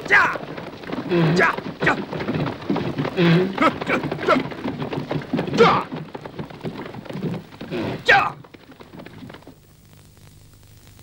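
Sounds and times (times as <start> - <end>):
chariot wheels rattling: 0.0 - 9.5
horses galloping: 0.0 - 9.6.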